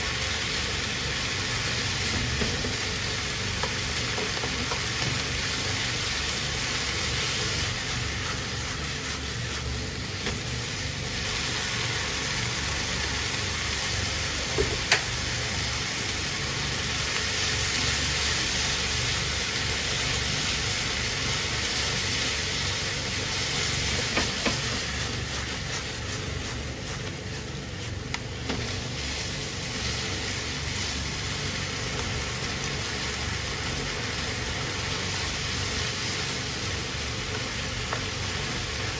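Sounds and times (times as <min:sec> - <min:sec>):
noodles sizzling in a frying pan: 0:00.0 - 0:38.9.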